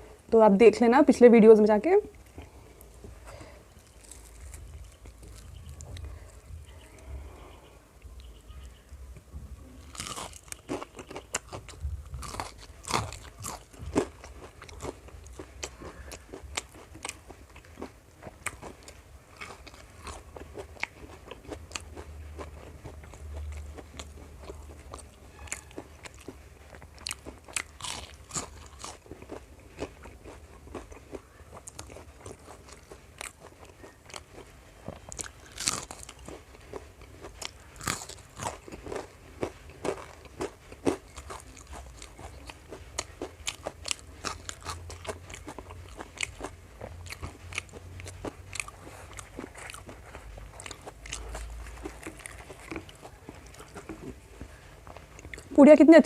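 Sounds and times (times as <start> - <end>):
person chewing crisp food: 2.1 - 55.6.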